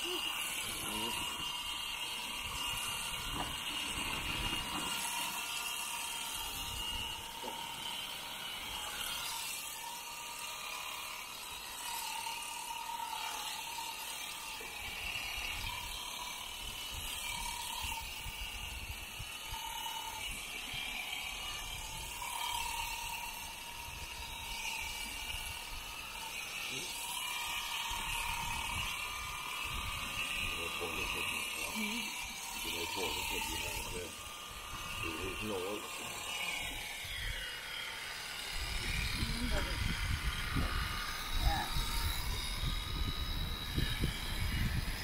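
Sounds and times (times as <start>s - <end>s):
electric shears whining: 0.0s - 45.0s.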